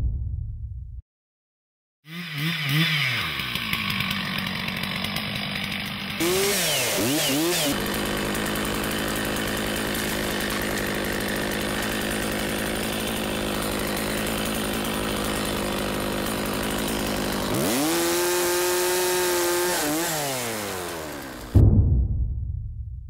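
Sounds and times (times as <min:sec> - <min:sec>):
chainsaw idling and revving: 0:02.0 - 0:21.6.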